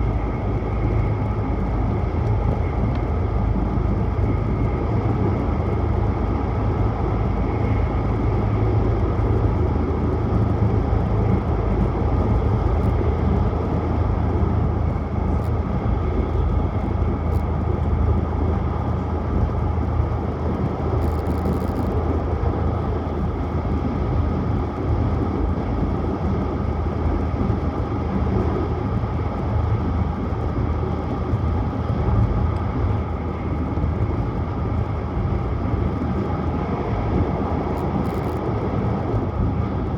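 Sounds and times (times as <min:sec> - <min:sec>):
train rumble from inside cabin: 0:00.0 - 0:39.9.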